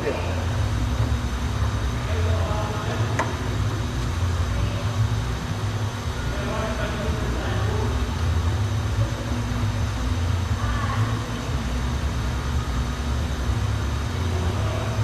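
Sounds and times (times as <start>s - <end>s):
steady low rumble: 0.0s - 15.0s
faint distant voices: 1.9s - 15.0s.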